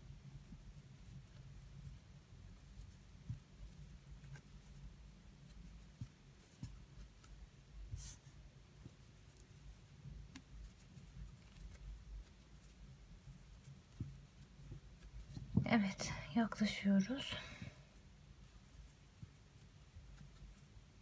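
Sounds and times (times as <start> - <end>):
crochet hook scratching yarn: 0.2 - 16.0, 17.9 - 21.0.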